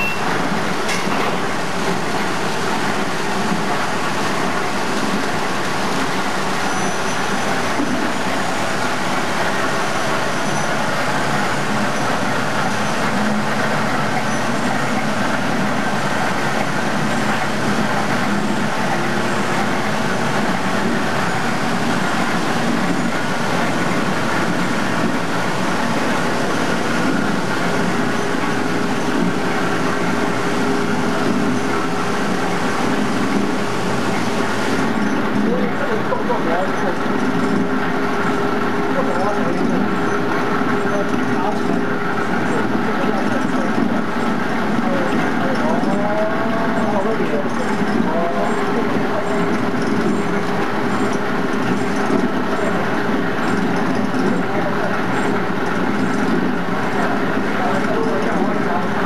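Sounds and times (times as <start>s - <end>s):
paper bag machine running: 0.0s - 59.0s.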